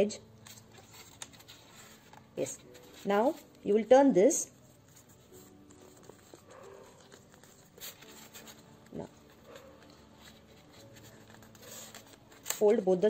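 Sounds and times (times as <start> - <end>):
paper rustling as folded: 0.4 - 3.7, 4.6 - 13.0.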